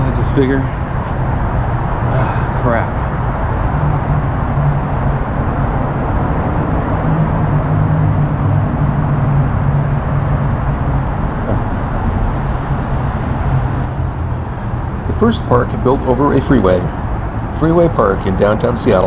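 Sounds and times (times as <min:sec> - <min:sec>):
heavy freeway traffic rumble: 0:00.0 - 0:19.0.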